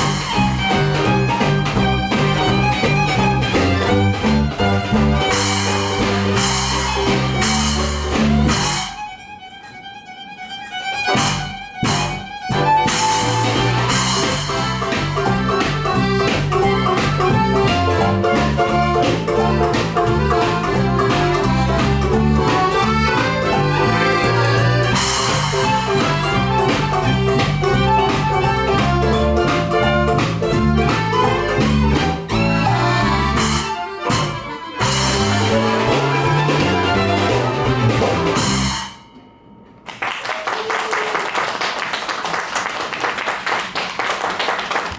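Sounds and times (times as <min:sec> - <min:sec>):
live band playing: 0:00.0 - 0:09.3, 0:10.8 - 0:39.1.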